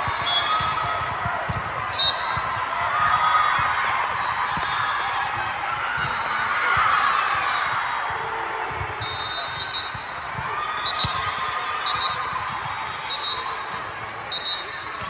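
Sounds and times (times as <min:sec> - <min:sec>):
volleyballs struck and bouncing: 0:00.0 - 0:15.0.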